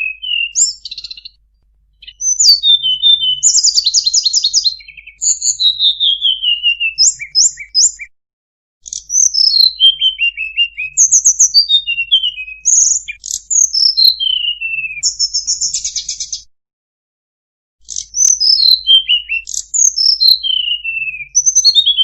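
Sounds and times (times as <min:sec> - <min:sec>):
bird singing trills: 0:00.0 - 0:01.4, 0:02.0 - 0:08.1, 0:08.8 - 0:16.5, 0:17.8 - 0:22.0.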